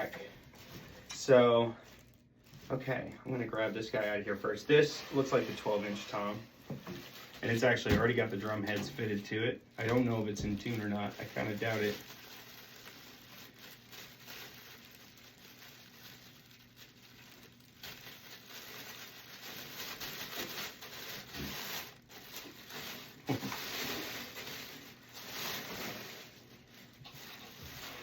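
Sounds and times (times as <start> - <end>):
packaging rustling and tearing: 0.0 - 28.0.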